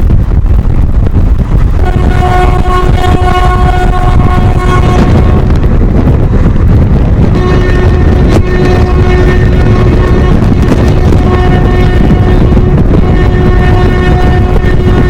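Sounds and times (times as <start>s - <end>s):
train rumbling at speed: 0.0s - 15.0s
train horn: 1.6s - 15.0s.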